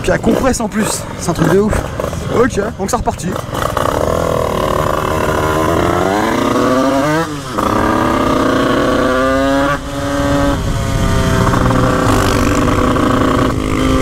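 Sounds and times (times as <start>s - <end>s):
two-stroke motorcycle accelerating: 0.0s - 14.0s.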